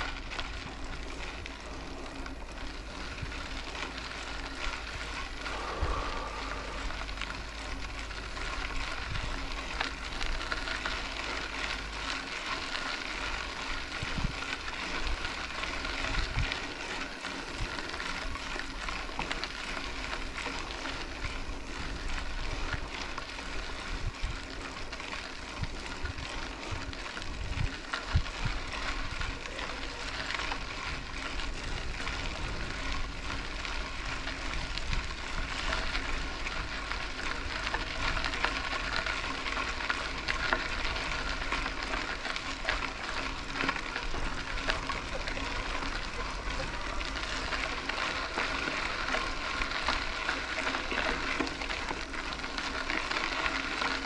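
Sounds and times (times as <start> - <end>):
bike knocking and rattling: 0.0 - 54.0
bike tyres hissing on gravel: 0.0 - 54.0.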